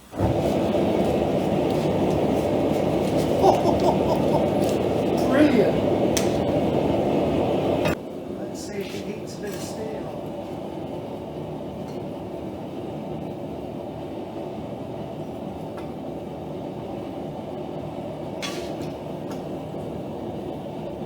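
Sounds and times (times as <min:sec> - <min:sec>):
forge rumbling: 0:00.0 - 0:21.0.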